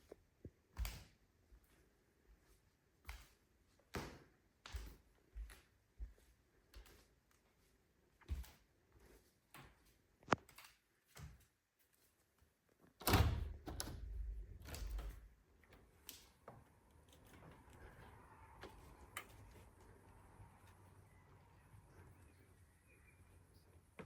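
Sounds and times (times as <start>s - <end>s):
faint steady background: 0.0s - 24.0s.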